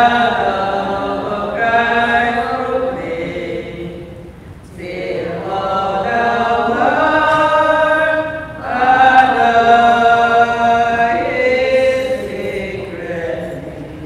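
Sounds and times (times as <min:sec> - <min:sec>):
voices singing a slow hymn: 0:00.0 - 0:14.0.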